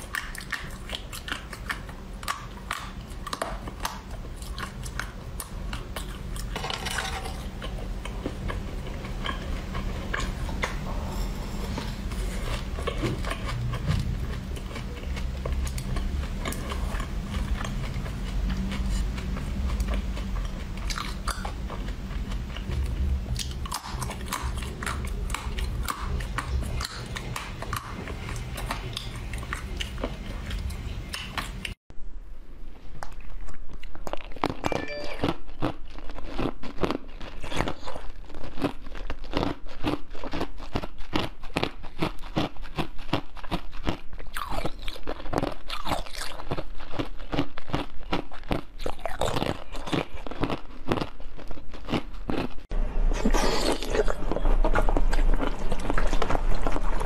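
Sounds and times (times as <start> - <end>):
ice crunching and chewing: 0.0 - 31.8, 33.0 - 57.0.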